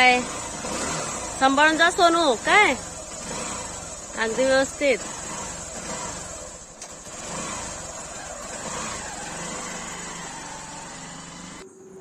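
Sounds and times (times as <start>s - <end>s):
motorcycle engine setting off: 0.0s - 11.6s.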